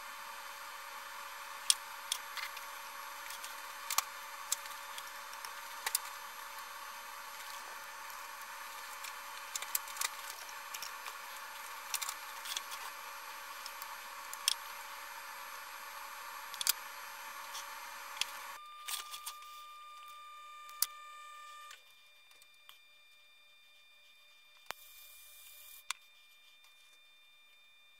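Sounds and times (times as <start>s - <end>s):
faint high whine: 0.0s - 27.9s.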